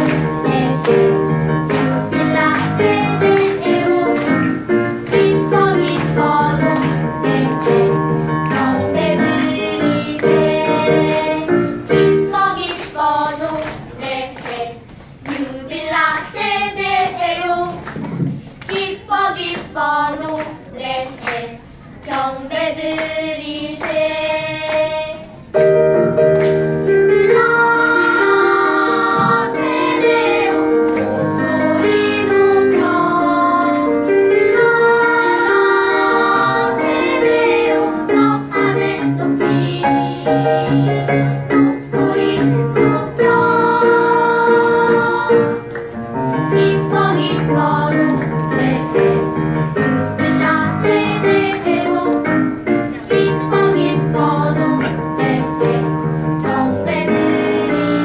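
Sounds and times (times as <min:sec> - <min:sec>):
instrumental accompaniment: 0:00.0 - 0:13.9, 0:23.8 - 0:58.0
children's choir singing carol: 0:00.0 - 0:58.0.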